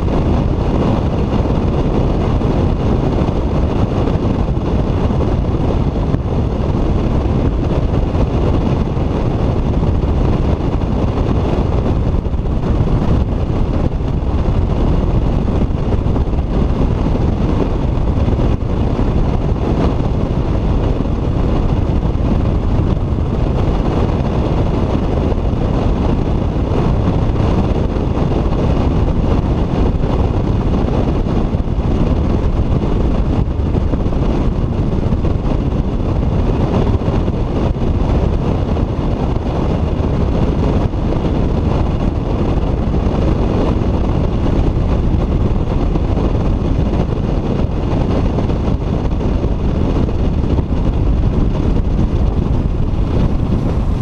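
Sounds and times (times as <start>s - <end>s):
boat rushing over choppy water: 0.0s - 54.0s
wind buffeting microphone: 0.0s - 54.0s.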